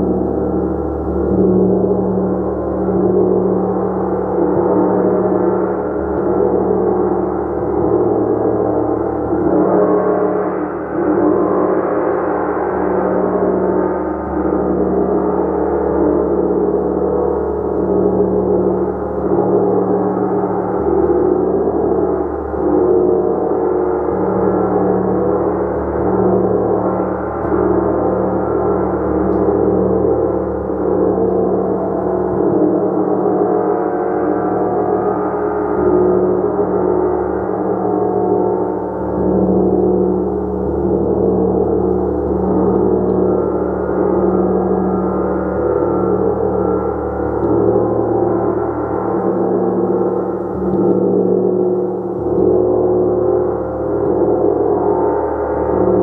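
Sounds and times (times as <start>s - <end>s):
gong sustained tones: 0.0s - 56.0s.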